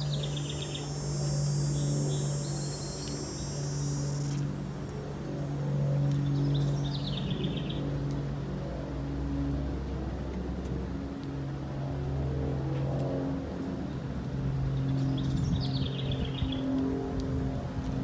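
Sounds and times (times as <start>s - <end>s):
distant engine hum: 0.0s - 18.0s
outdoor ambience: 0.0s - 18.0s.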